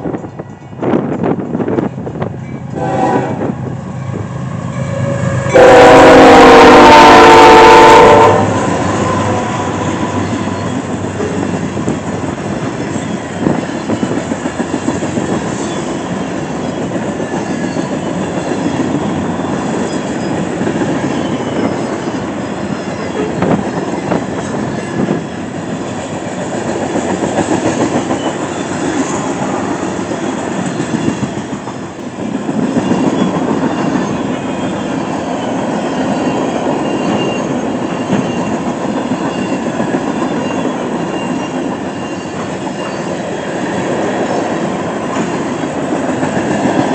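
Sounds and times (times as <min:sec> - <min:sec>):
train wheels clattering: 0:08.5 - 0:46.9.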